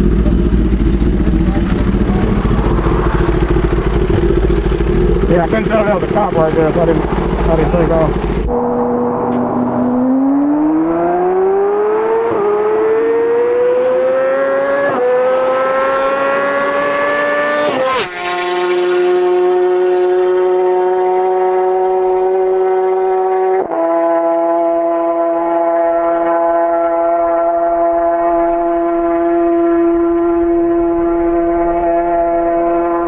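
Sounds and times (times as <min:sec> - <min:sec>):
motorcycle engine at full throttle: 0:00.0 - 0:33.0.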